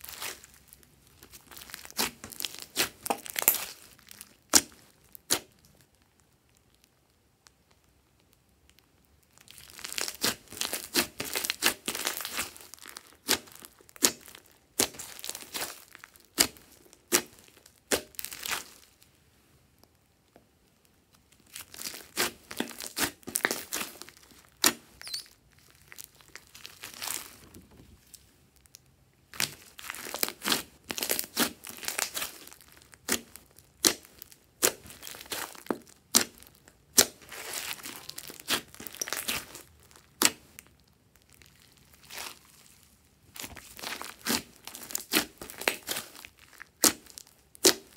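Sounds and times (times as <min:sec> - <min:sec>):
slime squishing and popping: 0:00.1 - 0:06.0, 0:08.7 - 0:18.8, 0:21.3 - 0:27.6, 0:28.6 - 0:47.9.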